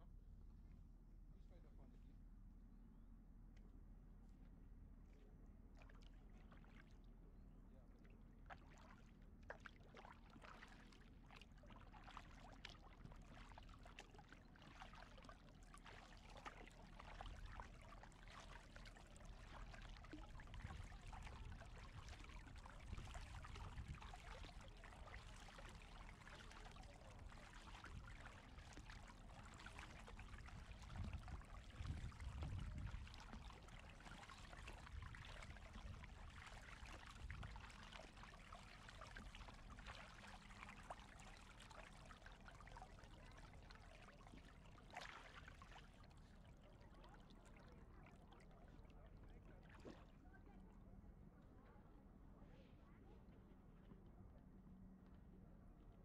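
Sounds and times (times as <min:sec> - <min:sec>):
paddle dipping through water: 0:05.0 - 0:07.2, 0:07.9 - 0:50.7.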